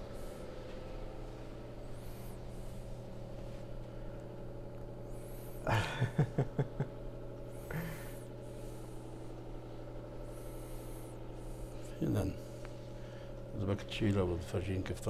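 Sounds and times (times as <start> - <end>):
oven electric hum: 0.0 - 15.0.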